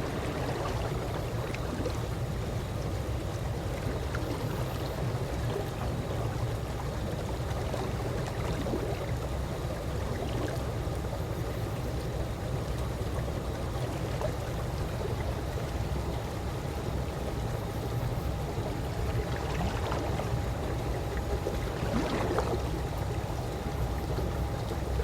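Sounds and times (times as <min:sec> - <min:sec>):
pool water lapping: 0:00.0 - 0:25.0.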